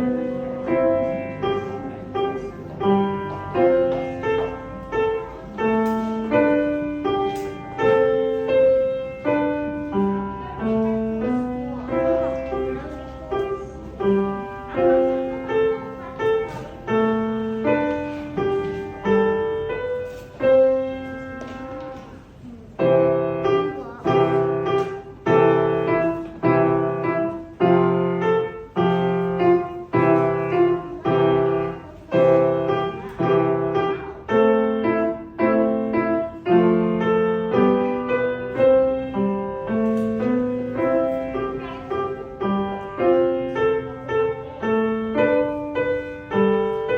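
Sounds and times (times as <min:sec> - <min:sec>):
solo piano melody with chords: 0:00.0 - 0:46.9.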